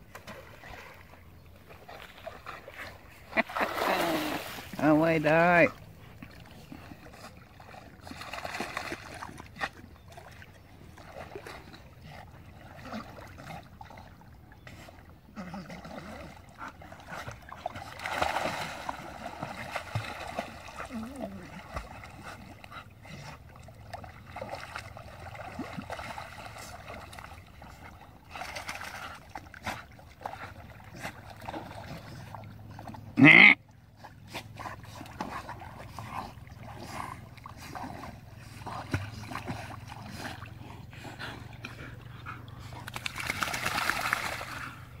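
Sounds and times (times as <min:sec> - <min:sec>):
dogs splashing in water: 0:00.0 - 0:45.0.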